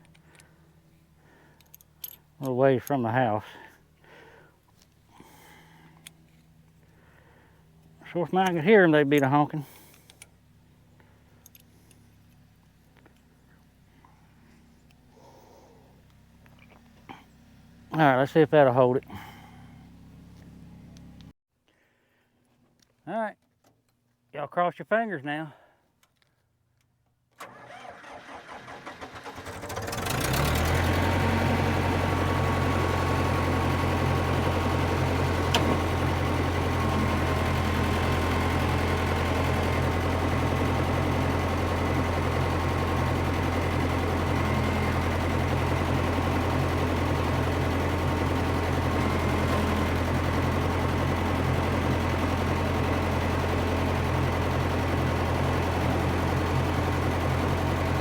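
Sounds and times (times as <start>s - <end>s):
dozer engine starting and running: 0.0s - 21.3s, 27.3s - 58.0s.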